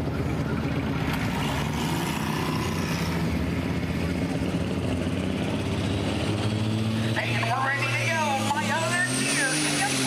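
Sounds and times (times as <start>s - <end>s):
tractor diesel engine rumbling: 0.0s - 10.0s.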